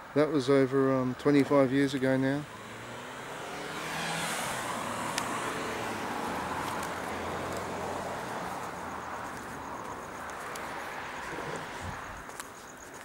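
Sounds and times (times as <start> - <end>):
car passing by: 1.9 - 12.4.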